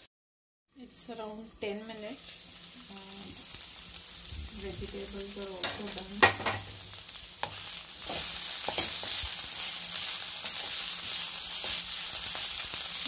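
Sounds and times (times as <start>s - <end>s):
food sizzling in a pan: 0.7s - 13.0s.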